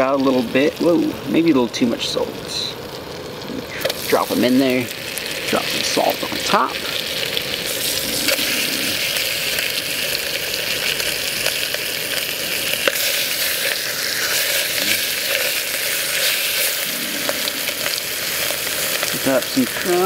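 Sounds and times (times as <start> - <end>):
fish sizzling in a pan: 0.0 - 20.0.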